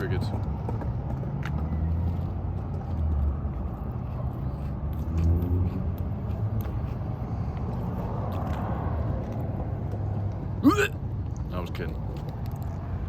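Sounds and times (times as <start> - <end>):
car rumbling: 0.0 - 13.0.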